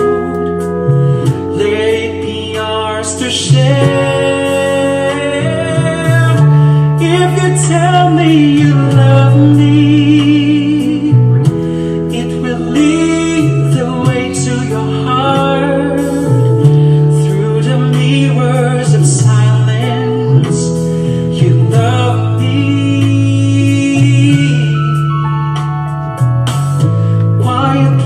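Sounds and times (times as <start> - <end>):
instrumental backing track: 0.0 - 28.0
man singing a slow ballad: 0.0 - 28.0.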